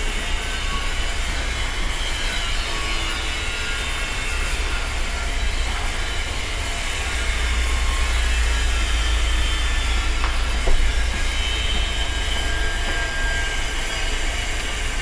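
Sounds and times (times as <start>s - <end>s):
heavy machinery rumbling: 0.0s - 15.0s.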